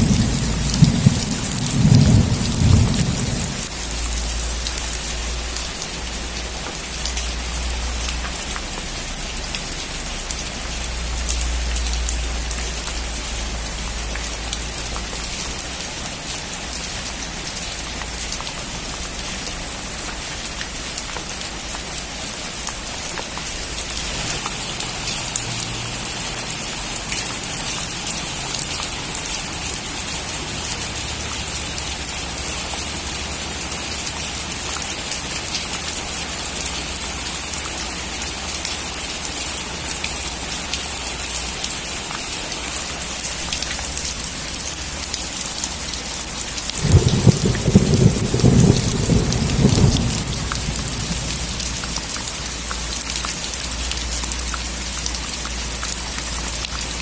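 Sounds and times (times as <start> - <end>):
heavy rain on a metal roof: 0.0 - 57.0.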